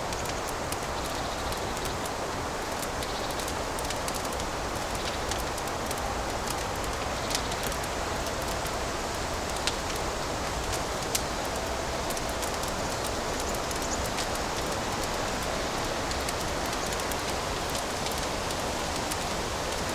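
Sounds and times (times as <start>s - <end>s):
fireplace fire crackling: 0.0s - 19.9s
sharp fire snaps: 0.0s - 19.9s.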